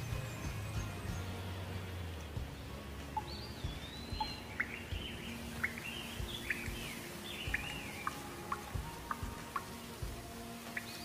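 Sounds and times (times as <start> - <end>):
background hiss: 0.0 - 11.0
birds chirping: 0.0 - 11.0.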